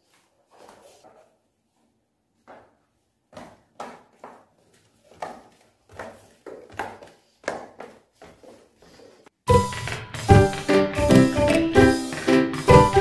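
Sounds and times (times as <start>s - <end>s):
flip-flop footsteps on tiled stairs: 2.4s - 13.0s.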